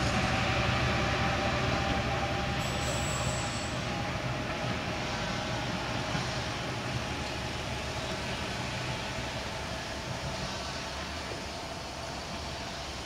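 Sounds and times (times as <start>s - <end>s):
diesel train engine hum: 0.0s - 13.0s
train wheel noise: 0.0s - 13.0s.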